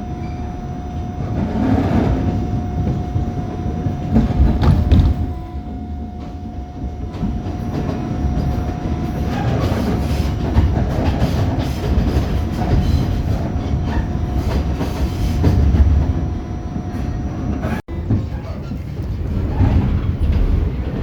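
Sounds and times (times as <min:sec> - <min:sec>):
thin steady whine: 0:00.0 - 0:17.8
subway train rumbling and rattling: 0:00.0 - 0:21.0.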